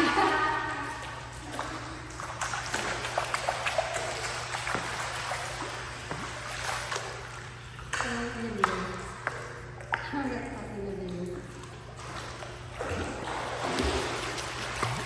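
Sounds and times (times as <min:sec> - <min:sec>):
steady low hum: 0:00.0 - 0:15.0
water splashing in pool: 0:00.0 - 0:15.0.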